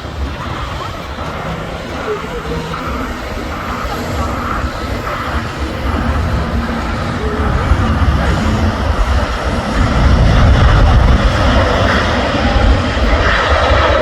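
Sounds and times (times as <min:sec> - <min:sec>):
jet engines roaring at takeoff: 0:00.0 - 0:14.0.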